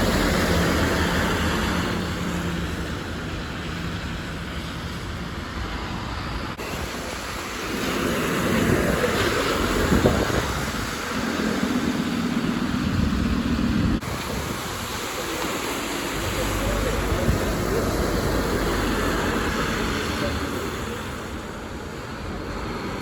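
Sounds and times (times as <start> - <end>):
bus engine drone: 0.0 - 23.0.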